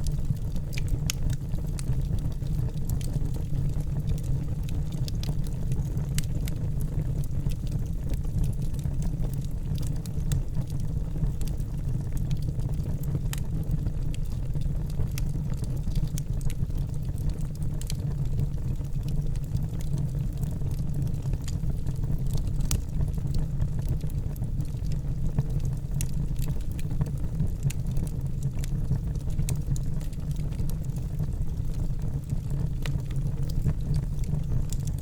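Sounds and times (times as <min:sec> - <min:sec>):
fire crackling in a fireplace: 0:00.0 - 0:35.0.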